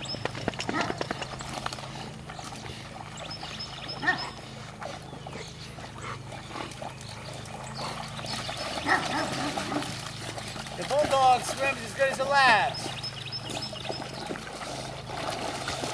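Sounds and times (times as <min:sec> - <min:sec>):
dogs splashing in water: 0:00.0 - 0:15.9.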